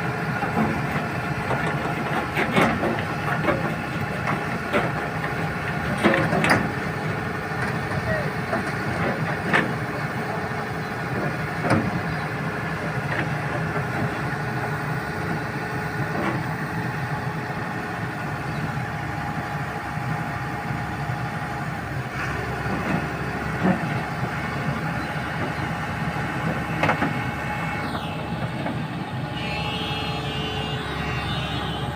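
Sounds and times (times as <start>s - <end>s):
heavy vehicle engine running: 0.0s - 31.9s.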